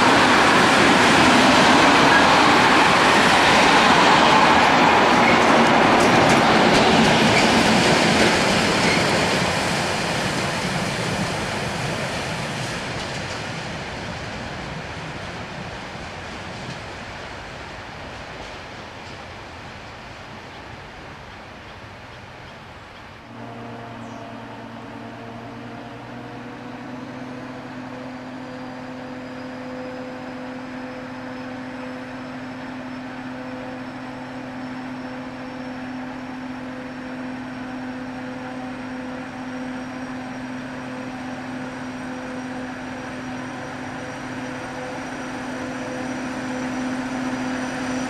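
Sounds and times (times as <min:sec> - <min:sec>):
diesel locomotive engine droning: 0:00.0 - 0:48.0
passing train rumble: 0:00.0 - 0:48.0.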